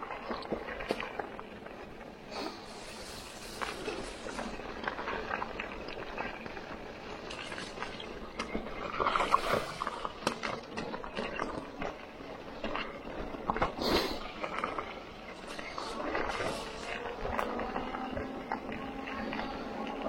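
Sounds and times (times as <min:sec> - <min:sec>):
bicycle tyres crunching on trail: 0:00.0 - 0:20.0
bike rattling: 0:00.0 - 0:20.0.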